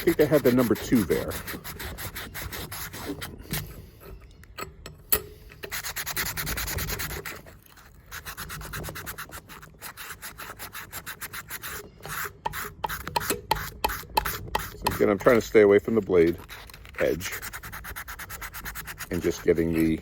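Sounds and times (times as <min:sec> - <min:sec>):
scrubbing on steel blade: 0:00.0 - 0:03.8, 0:05.7 - 0:20.0.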